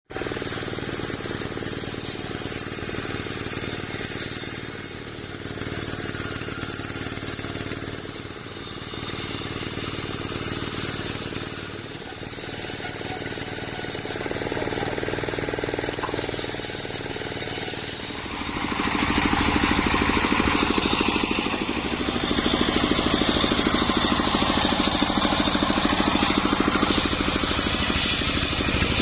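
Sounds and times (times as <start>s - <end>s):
circular saw running: 0.1s - 29.0s.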